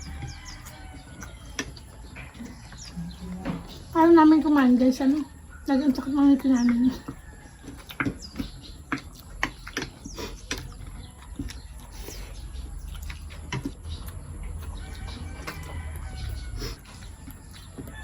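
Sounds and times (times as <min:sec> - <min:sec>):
chewing clicks and smacks: 0:00.0 - 0:18.0.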